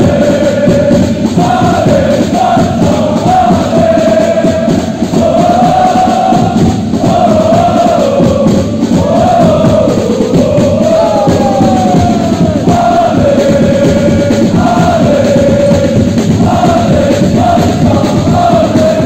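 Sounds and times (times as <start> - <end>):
crowd singing a chant: 0.0 - 19.0.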